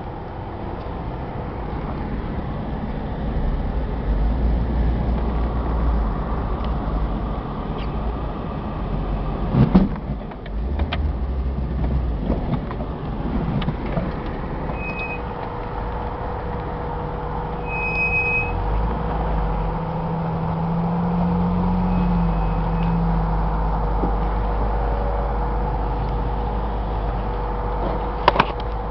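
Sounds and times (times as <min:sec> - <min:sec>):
off-road vehicle engine rumbling: 0:00.0 - 0:28.9.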